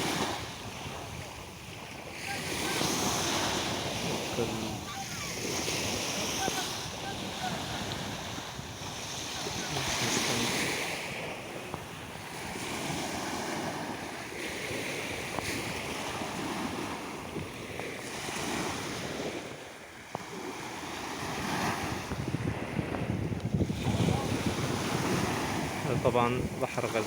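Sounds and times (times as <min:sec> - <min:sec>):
wind rumbling on microphone: 0:00.0 - 0:20.5, 0:21.2 - 0:27.0
small waves washing on shore: 0:00.0 - 0:27.0.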